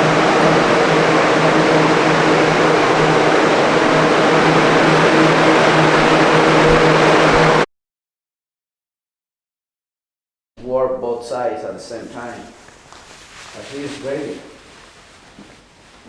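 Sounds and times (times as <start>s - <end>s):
electric fan motor whirring: 0.0s - 7.6s, 10.7s - 16.0s.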